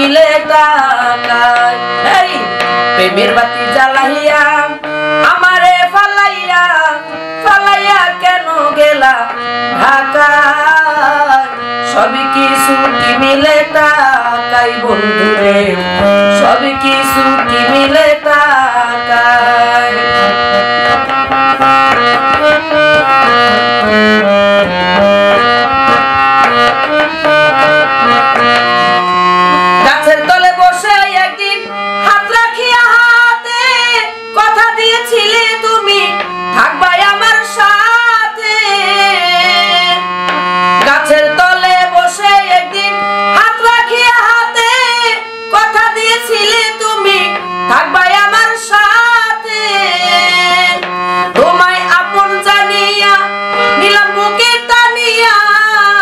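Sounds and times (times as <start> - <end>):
woman singing: 0.0 - 21.0, 29.8 - 40.1, 40.8 - 56.0
harmonium chords: 0.0 - 56.0.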